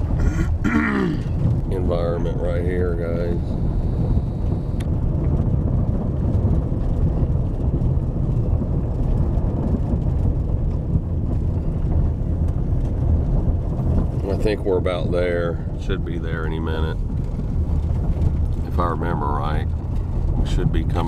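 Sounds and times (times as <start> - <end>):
car driving on gravel: 0.0 - 21.0.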